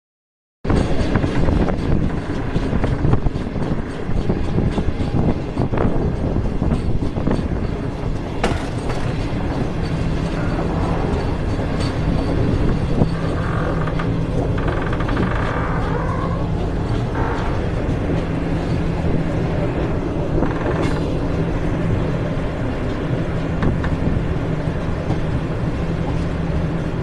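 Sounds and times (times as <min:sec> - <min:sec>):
train rumbling: 0:00.6 - 0:27.0
wheels clicking over rail joints: 0:00.7 - 0:27.0.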